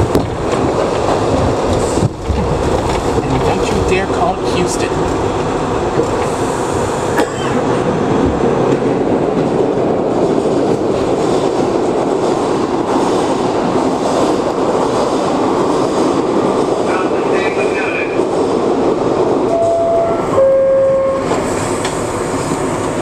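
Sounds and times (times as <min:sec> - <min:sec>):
subway train rumbling on rails: 0:00.0 - 0:23.0.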